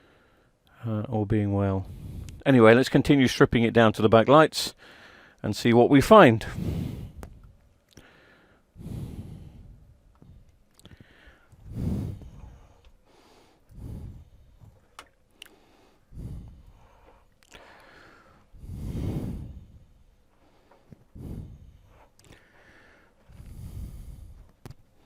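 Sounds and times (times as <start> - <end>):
man breathing: 0.0 - 0.6, 1.8 - 2.4, 4.8 - 5.4, 6.4 - 25.0.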